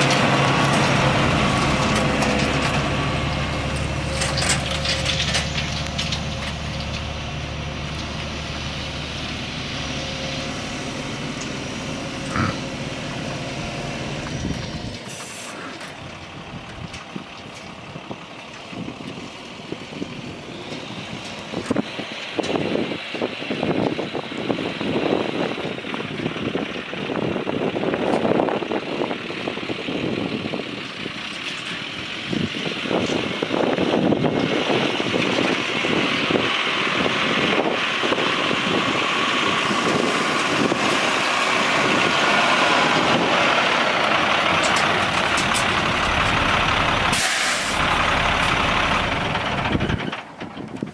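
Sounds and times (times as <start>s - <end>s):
diesel truck engine running: 0.0s - 50.9s.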